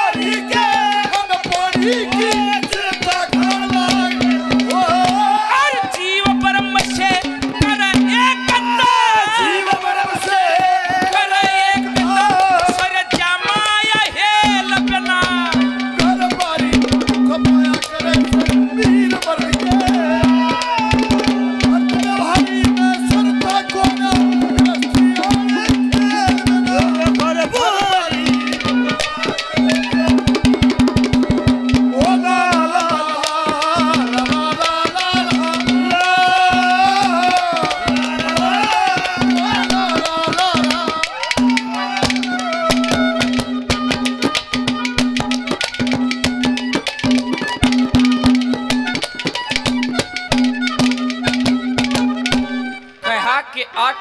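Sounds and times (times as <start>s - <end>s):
hand drums fast rhythm: 0.0s - 52.8s.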